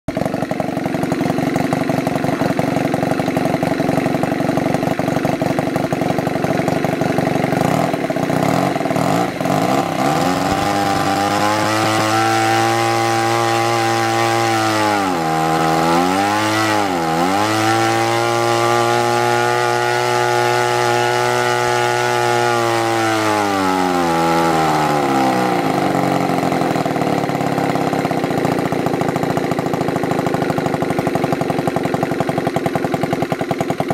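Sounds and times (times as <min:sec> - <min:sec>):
model aircraft engine running: 0:00.1 - 0:33.9.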